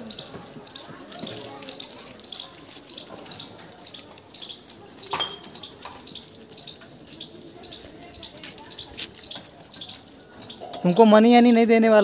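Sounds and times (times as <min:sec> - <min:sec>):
hose water spraying on car: 0:00.0 - 0:12.0.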